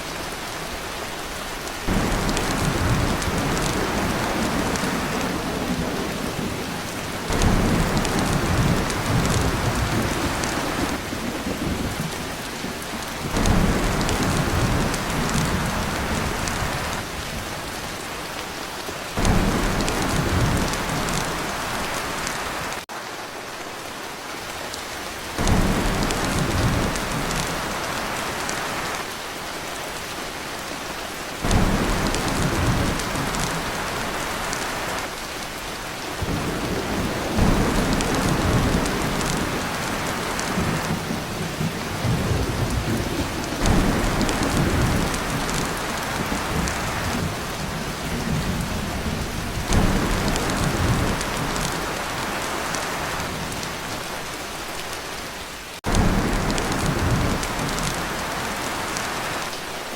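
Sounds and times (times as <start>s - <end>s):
heavy rain on a tin roof: 0.0s - 59.9s
thunder rumble: 1.9s - 17.8s, 19.2s - 22.8s, 25.4s - 28.9s, 31.4s - 35.1s, 36.2s - 54.0s, 55.8s - 59.3s.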